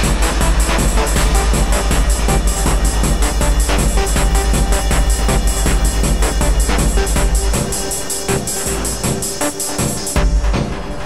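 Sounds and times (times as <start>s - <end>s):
noisy experimental electronic music: 0.0s - 11.0s.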